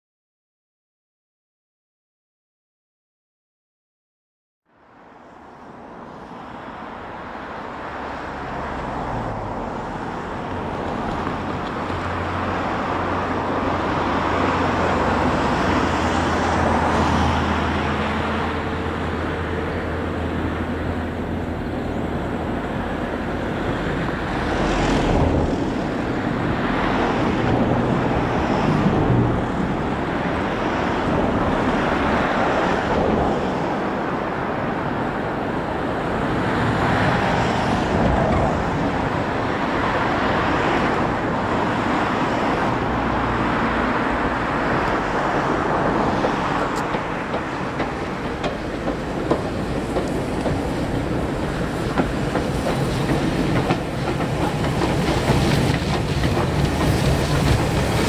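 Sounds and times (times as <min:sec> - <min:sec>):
road traffic: 0:04.6 - 0:58.0
vehicles passing: 0:04.7 - 0:58.0.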